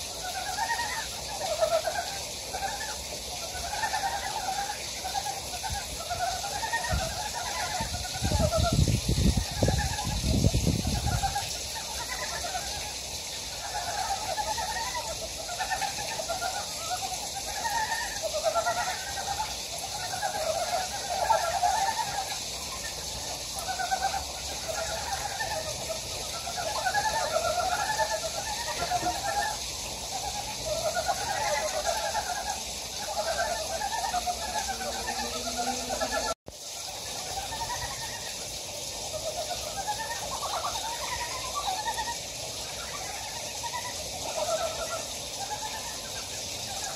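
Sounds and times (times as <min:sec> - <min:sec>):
frogs croaking in chorus: 0:00.0 - 0:46.9
steady hiss: 0:00.0 - 0:46.9.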